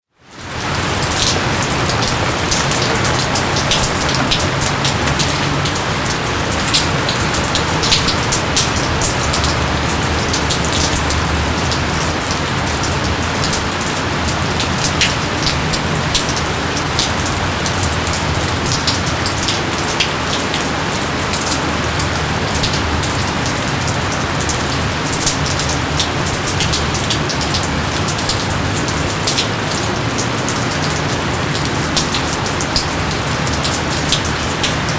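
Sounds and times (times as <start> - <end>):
raindrops splatting close by: 0.2 - 34.9
steady rain hiss: 0.2 - 34.9.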